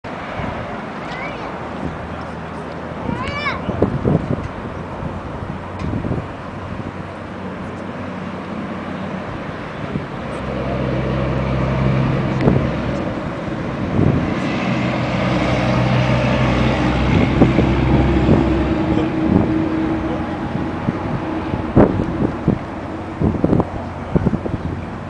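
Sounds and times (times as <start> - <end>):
engine humming: 0.0 - 25.0
wind on microphone: 1.6 - 25.0.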